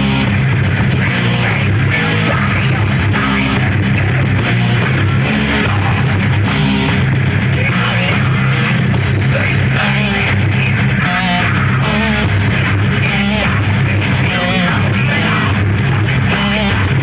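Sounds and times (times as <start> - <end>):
live heavy metal band: 0.0 - 17.0.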